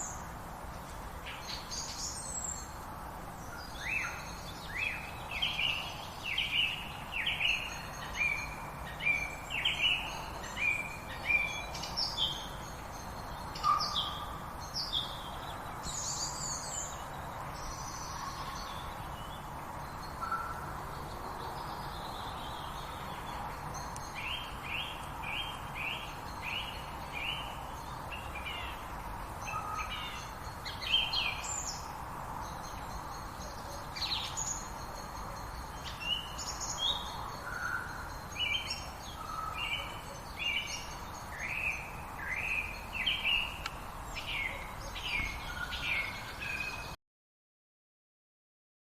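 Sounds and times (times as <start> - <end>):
songbirds chirping: 0.0 - 47.0
steady background hiss: 0.0 - 47.0.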